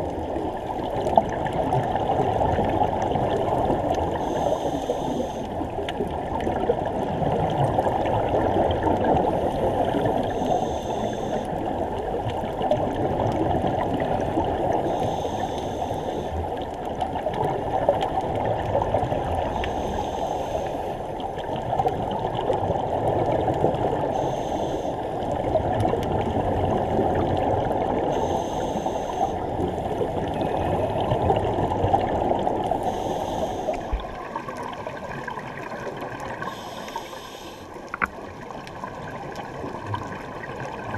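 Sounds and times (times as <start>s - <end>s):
underwater rush of water: 0.0s - 40.9s.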